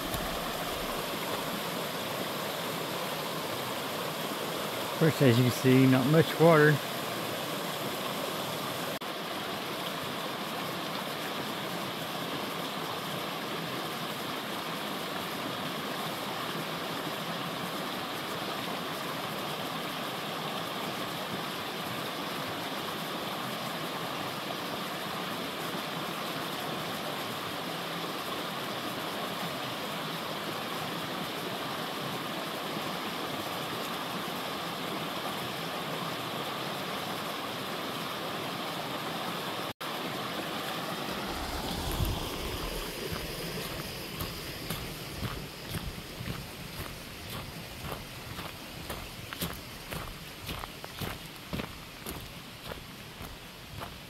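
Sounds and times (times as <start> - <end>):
creek flowing: 0.0 - 54.0.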